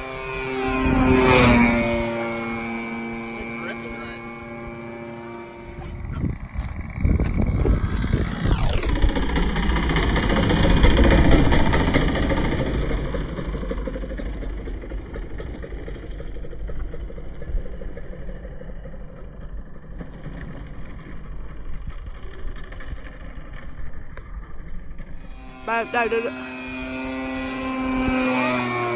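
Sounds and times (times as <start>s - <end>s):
model plane two-stroke engine: 0.0s - 28.9s.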